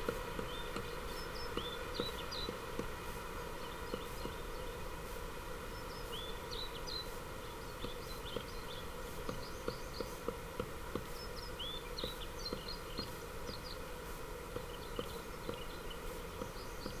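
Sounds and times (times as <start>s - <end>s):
small birds chirping: 0.0s - 2.8s, 3.4s - 4.8s, 5.6s - 17.0s.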